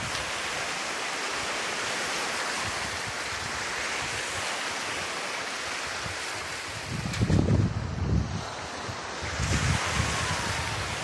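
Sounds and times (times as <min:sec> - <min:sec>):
small waves breaking on shore: 0:00.0 - 0:11.0.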